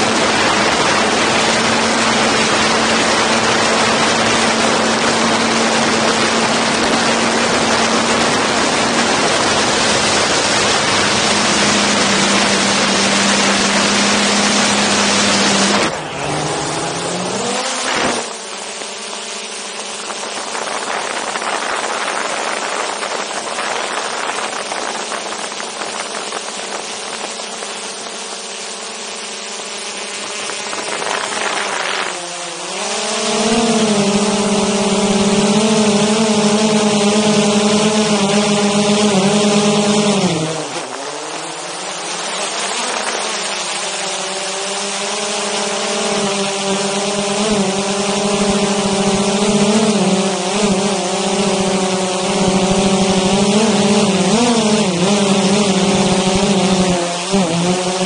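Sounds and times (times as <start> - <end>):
drone motors humming: 0.0 - 58.0.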